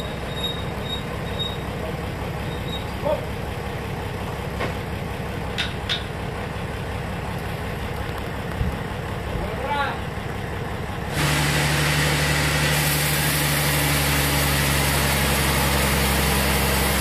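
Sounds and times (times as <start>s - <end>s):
sawmill machinery droning: 0.0s - 17.0s.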